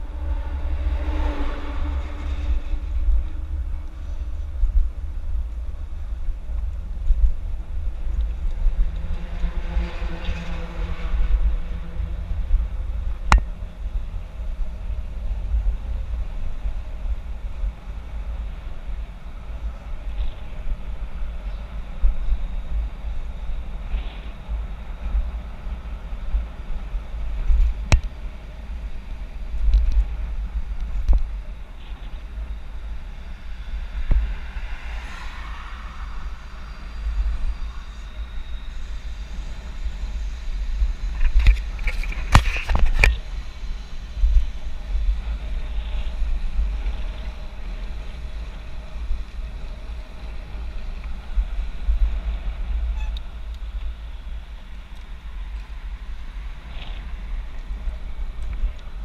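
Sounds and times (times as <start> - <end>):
wind buffeting a microphone: 0.0 - 59.0.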